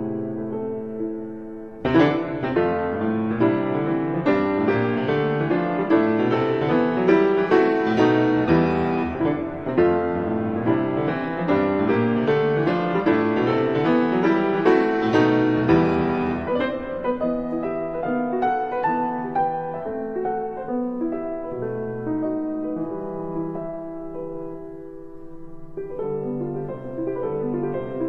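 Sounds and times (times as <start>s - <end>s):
piano melody with chords: 0.0s - 28.0s.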